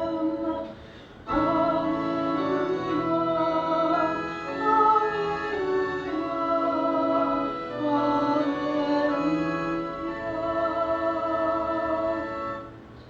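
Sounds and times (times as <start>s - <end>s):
church singing with instruments: 0.0s - 13.0s.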